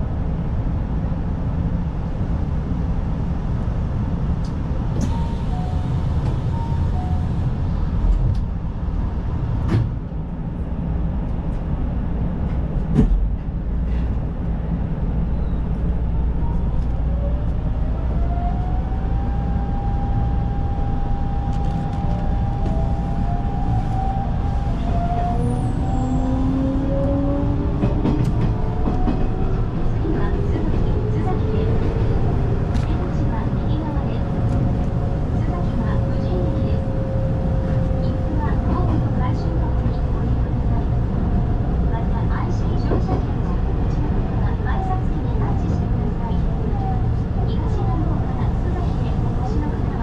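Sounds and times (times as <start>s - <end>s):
train running rumble: 0.0s - 50.0s.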